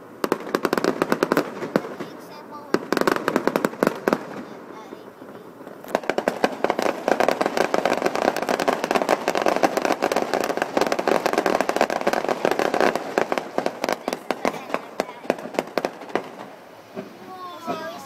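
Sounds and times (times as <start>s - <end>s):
fireworks bangs and crackle: 0.0s - 18.0s.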